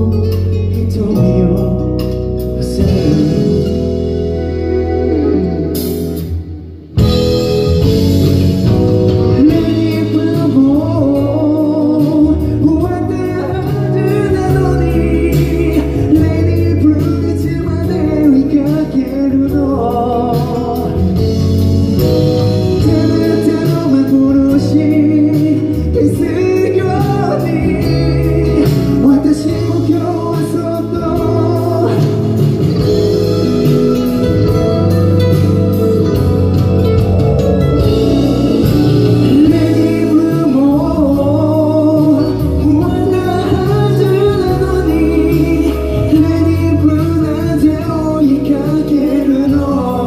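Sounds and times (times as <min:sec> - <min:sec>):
man singing into microphone: 0:00.0 - 0:06.4, 0:09.2 - 0:21.6, 0:22.2 - 0:33.1, 0:38.6 - 0:50.0
backing music: 0:00.0 - 0:50.0.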